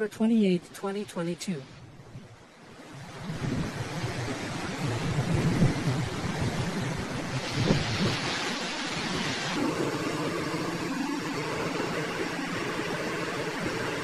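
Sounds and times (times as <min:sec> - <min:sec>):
hurricane wind and rain: 0:00.0 - 0:14.0.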